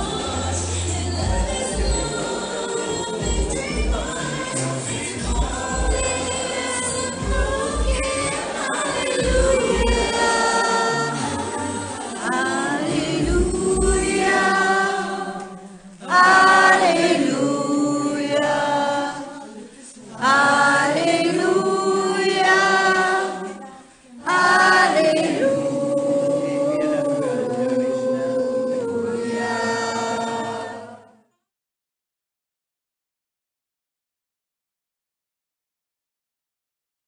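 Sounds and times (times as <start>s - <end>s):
group singing: 0.0s - 31.4s.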